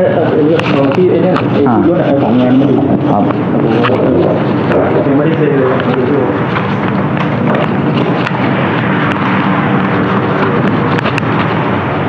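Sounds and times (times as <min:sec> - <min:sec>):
microphone handling noise: 0:00.0 - 0:12.0.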